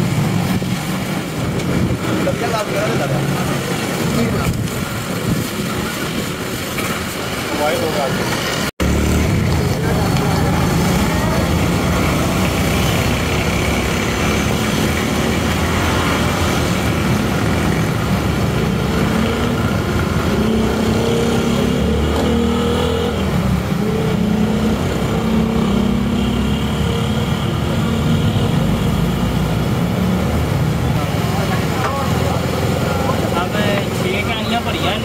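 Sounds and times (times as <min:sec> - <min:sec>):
road vehicle engines: 0:00.0 - 0:35.0.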